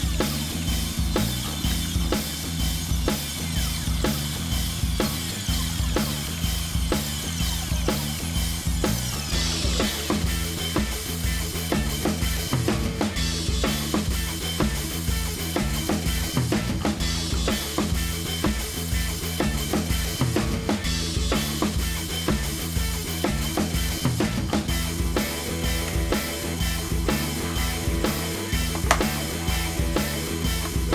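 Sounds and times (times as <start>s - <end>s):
band music with drums and bass: 0.0s - 30.9s.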